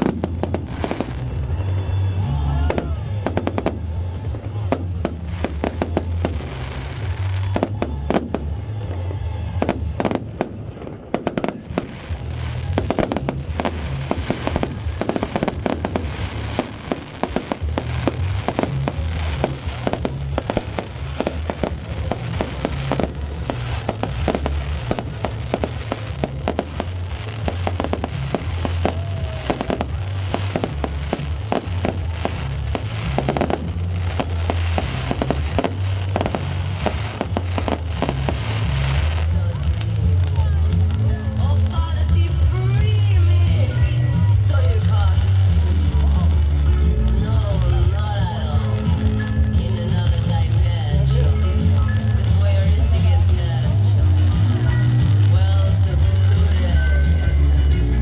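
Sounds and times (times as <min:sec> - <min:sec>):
loud music with heavy bass: 0:00.0 - 0:08.7, 0:11.2 - 0:58.0
fireworks bangs and crackles: 0:00.0 - 0:58.0.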